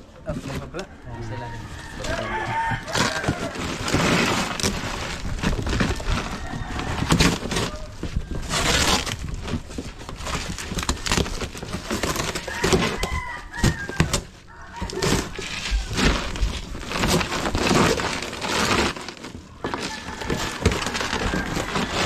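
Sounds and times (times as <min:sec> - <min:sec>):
plastic wrapping tearing and crumpling: 0:01.8 - 0:22.0.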